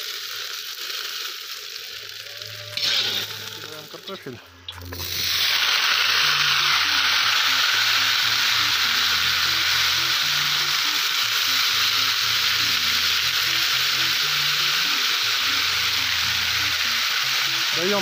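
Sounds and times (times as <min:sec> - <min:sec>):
potatoes sizzling in hot fat: 0:00.0 - 0:18.0.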